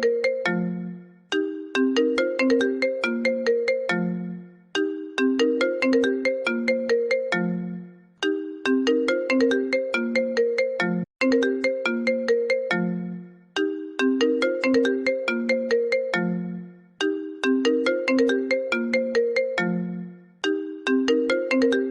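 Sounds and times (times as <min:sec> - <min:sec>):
phone ringtone melody: 0:00.0 - 0:21.9.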